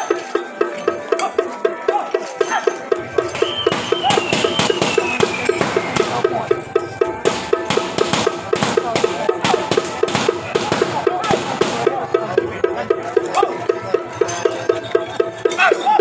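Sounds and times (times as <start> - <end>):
fast clacking percussion beat: 0.0 - 16.0.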